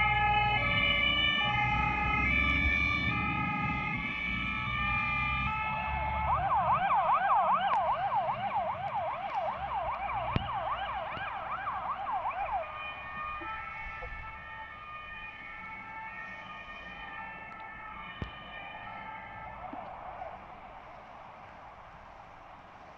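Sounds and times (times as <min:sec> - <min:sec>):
fire engine siren: 0:00.0 - 0:22.9.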